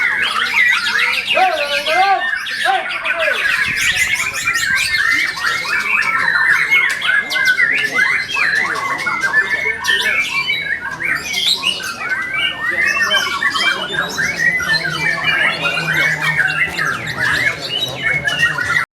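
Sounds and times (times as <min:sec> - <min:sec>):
bird singing varied sweeping notes: 0:00.0 - 0:18.9.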